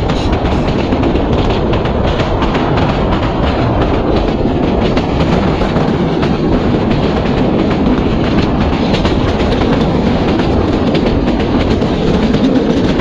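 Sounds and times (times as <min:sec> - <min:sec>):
train wheels rumbling on track: 0:00.0 - 0:13.0
wheels clicking over rail joints: 0:00.0 - 0:13.0.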